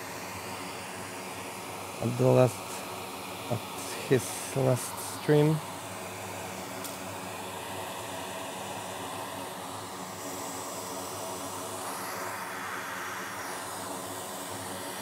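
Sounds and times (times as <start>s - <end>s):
air blower rushing hiss: 0.0s - 15.0s.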